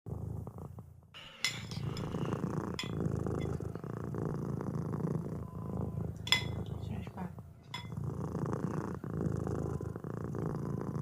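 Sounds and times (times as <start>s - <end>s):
cat purring: 0.1s - 11.0s.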